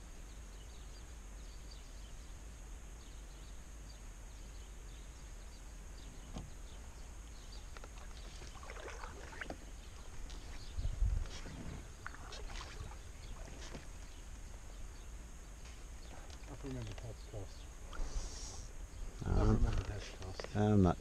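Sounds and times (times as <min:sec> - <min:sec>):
faint high hiss: 0:00.0 - 0:21.0.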